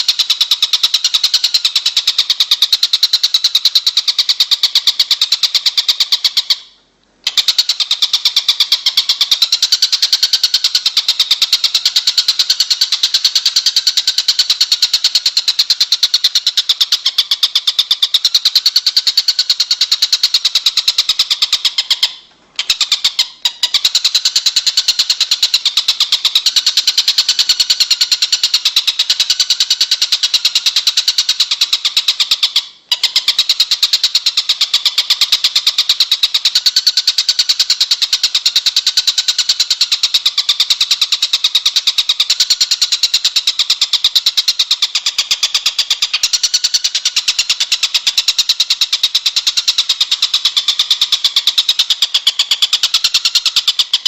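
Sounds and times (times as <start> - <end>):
high-pitched bird trill: 0.0 - 54.0.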